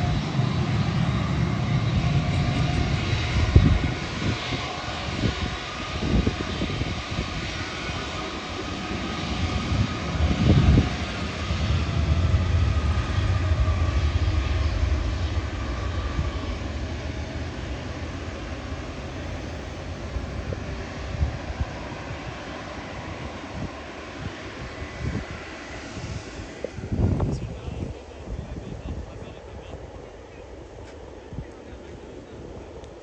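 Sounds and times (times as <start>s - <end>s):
jet engines passing overhead: 0.0s - 33.0s.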